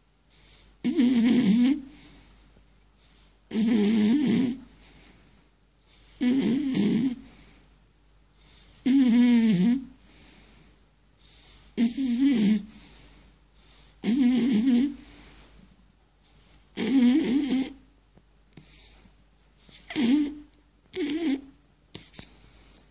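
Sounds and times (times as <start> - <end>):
dog snoring: 0.3 - 2.4, 3.0 - 7.7, 8.4 - 17.8, 18.6 - 22.4.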